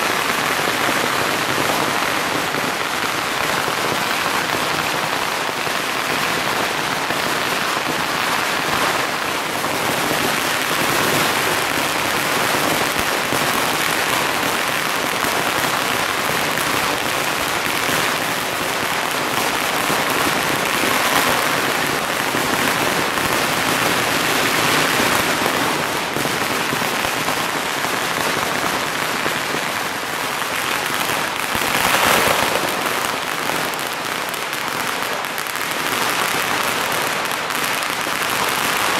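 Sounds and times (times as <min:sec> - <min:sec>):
firecrackers crackling: 0:00.0 - 0:38.9
loud firecracker bangs: 0:00.0 - 0:38.9.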